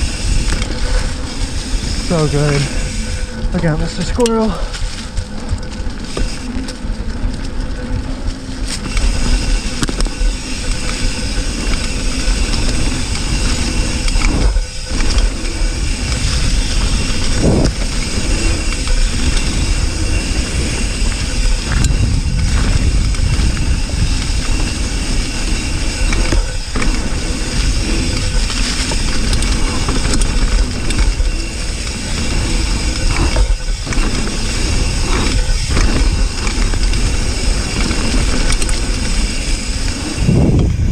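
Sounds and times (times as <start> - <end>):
bike tyres rolling on dirt trail: 0.0 - 40.9
wind rushing over microphone: 7.8 - 40.9.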